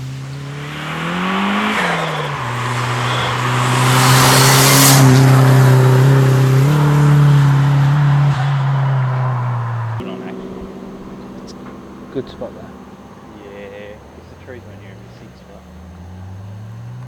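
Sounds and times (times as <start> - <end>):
car engine revving: 0.0 - 17.0
turbo rushing: 0.0 - 17.0.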